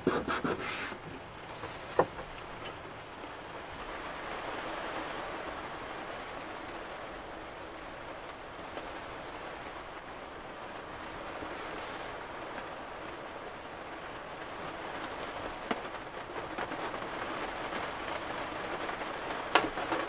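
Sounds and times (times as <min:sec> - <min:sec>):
rain on a camper roof: 0:00.0 - 0:20.0.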